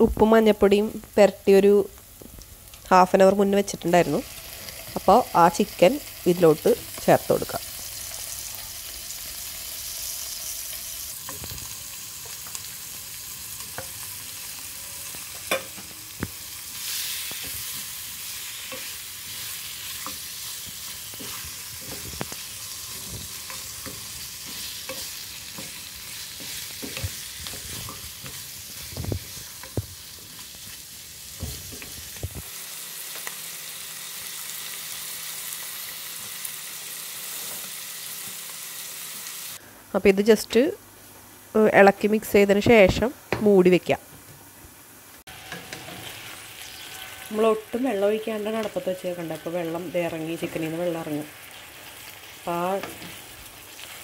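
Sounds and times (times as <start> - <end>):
chicken sizzling in a pan: 0.7 - 39.6, 45.2 - 54.0.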